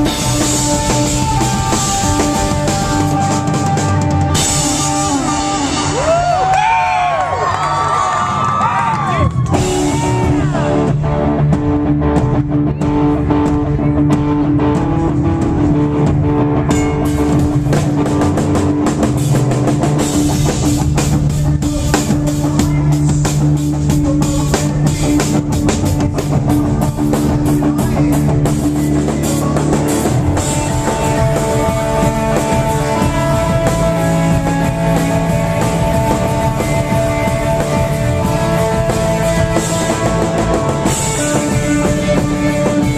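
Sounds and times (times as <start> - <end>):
bass guitar: 0.0 - 42.9
distorted electric guitars: 0.0 - 42.9
drum kit: 0.0 - 42.9.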